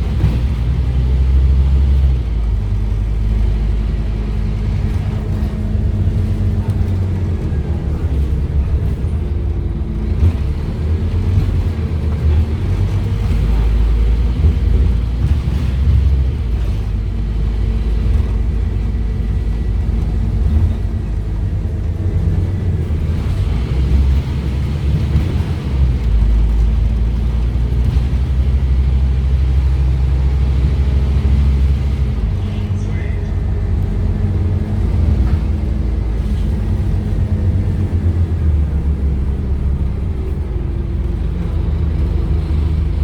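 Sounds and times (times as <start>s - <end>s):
bus diesel engine drone: 0.0s - 43.0s.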